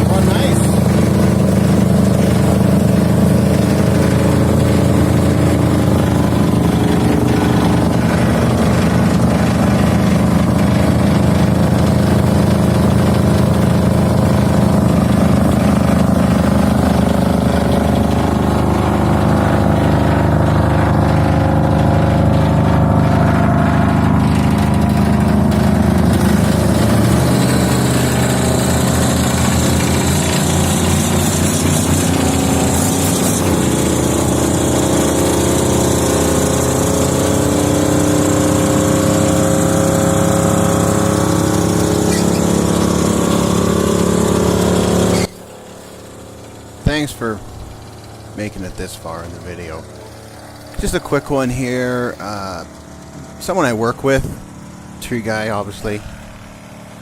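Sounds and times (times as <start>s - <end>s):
wood chipper engine running: 0.0s - 57.0s.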